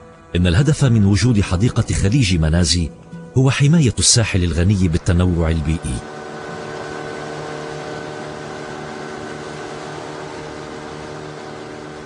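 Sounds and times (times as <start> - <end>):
motor humming: 1.2 - 12.0.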